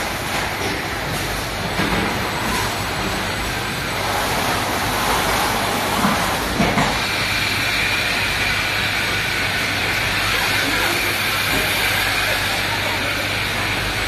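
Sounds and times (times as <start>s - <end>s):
production line machinery running: 0.0s - 14.0s.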